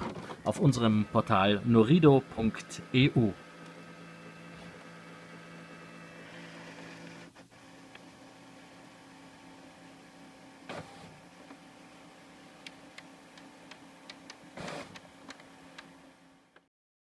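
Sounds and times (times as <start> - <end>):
printer whirring: 0.0 - 16.6
printer motor hum: 0.0 - 16.7.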